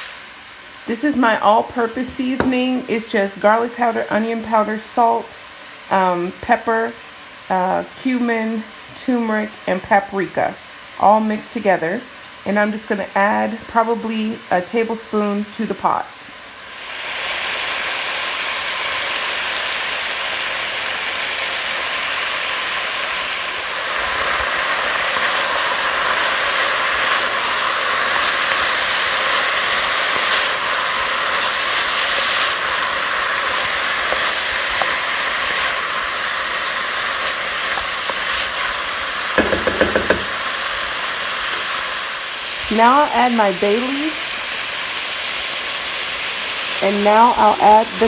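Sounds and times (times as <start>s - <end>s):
vegetables sizzling in a pot: 0.0s - 48.0s.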